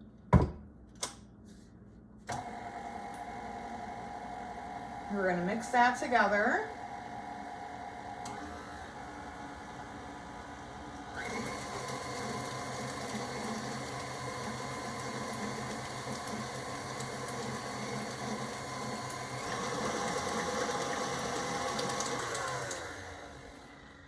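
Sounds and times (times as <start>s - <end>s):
electric stand mixer running: 2.3s - 5.6s, 6.6s - 24.0s.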